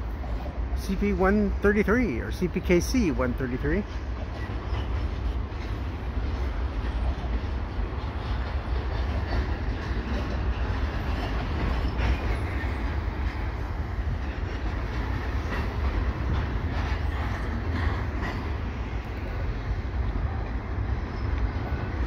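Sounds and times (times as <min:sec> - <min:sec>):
wheels clicking over rail joints: 0:00.3 - 0:22.0.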